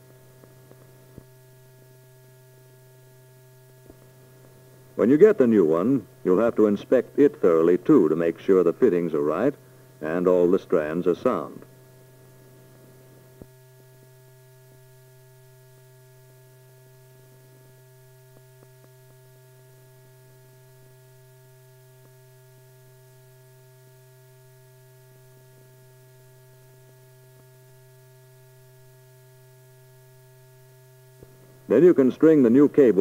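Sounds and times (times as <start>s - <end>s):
electrical mains hum: 0.0s - 33.0s.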